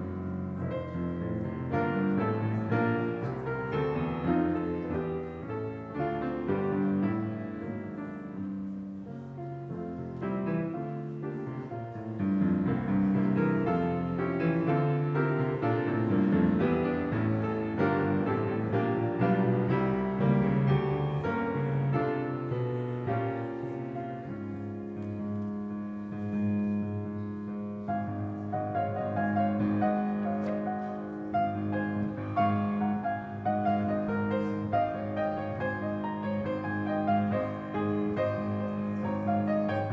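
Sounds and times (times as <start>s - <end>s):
classical piano piece: 0.0s - 39.9s.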